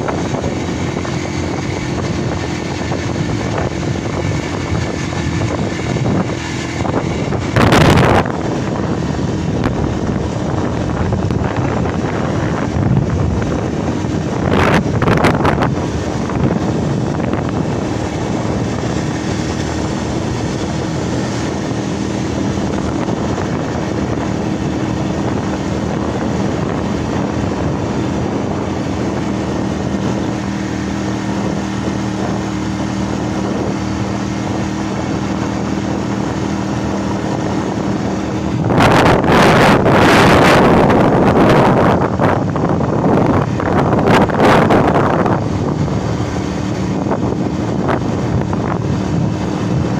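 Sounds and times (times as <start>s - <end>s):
vehicle engine humming: 0.0s - 49.9s
wind rushing over microphone: 0.0s - 49.9s.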